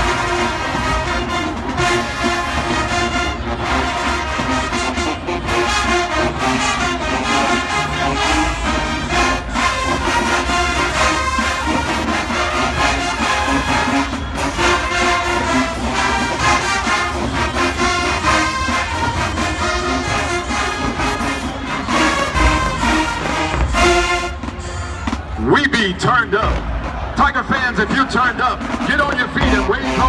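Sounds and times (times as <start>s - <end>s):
marching band brass playing: 0.0s - 30.0s.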